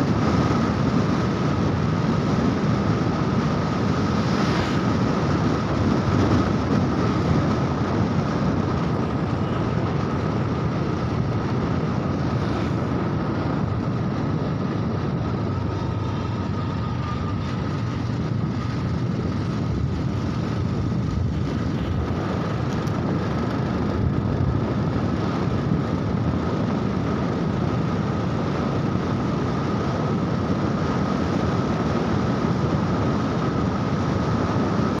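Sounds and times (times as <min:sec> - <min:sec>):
motorcycle engine running: 0:00.0 - 0:35.0
road noise: 0:00.0 - 0:35.0
steady high whine: 0:00.0 - 0:35.0
wind rushing over microphone: 0:00.0 - 0:35.0.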